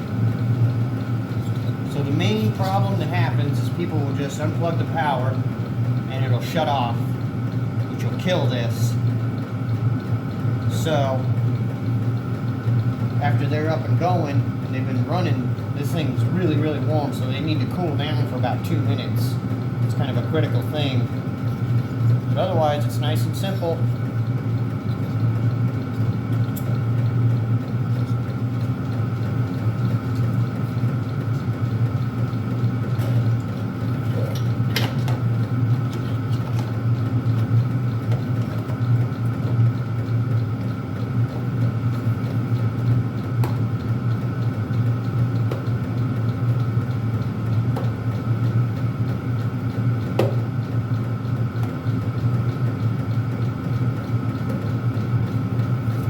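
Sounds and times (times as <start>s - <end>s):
heater blower fan humming: 0.0s - 56.0s.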